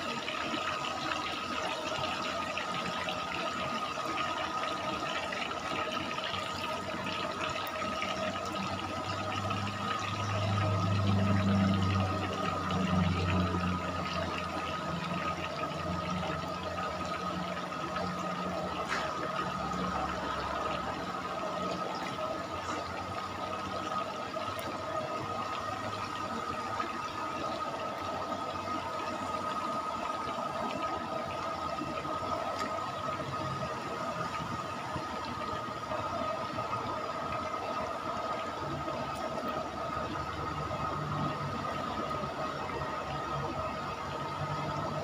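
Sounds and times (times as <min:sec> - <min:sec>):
chicken deep-frying in oil: 0:00.0 - 0:45.0
thin steady whine: 0:00.0 - 0:45.0.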